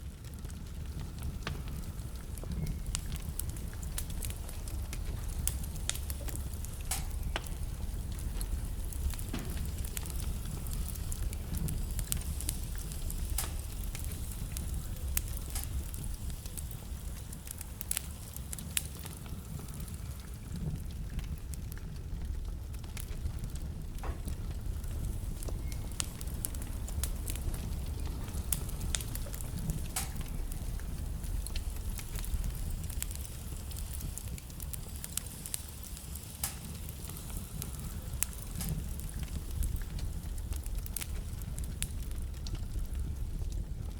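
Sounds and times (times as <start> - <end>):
low rumble of flames: 0.0 - 43.9
wood fire crackling and popping: 0.0 - 43.9.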